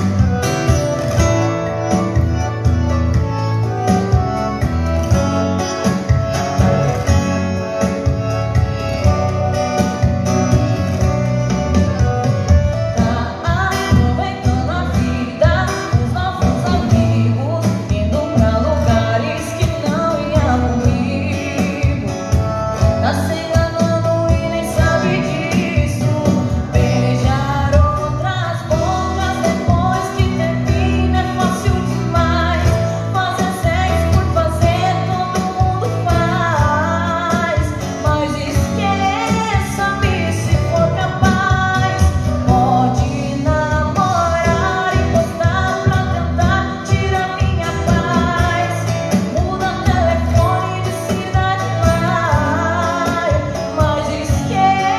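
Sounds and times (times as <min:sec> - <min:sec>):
acoustic guitar: 0:00.0 - 0:54.9
woman singing into microphone: 0:00.0 - 0:54.9.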